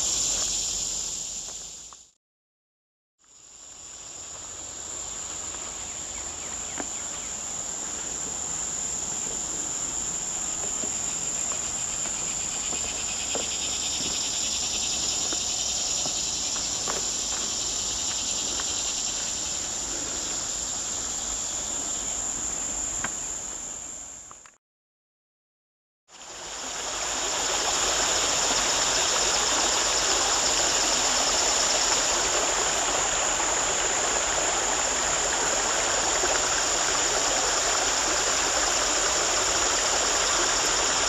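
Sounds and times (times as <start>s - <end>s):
high-pitched insect chorus: 0.0s - 2.1s, 3.2s - 24.4s, 26.1s - 41.0s.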